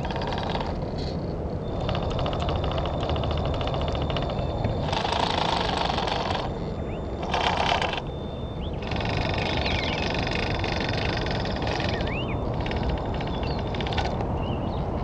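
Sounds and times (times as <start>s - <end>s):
small electric motor whining: 0.0s - 14.2s
birds calling: 0.0s - 15.0s.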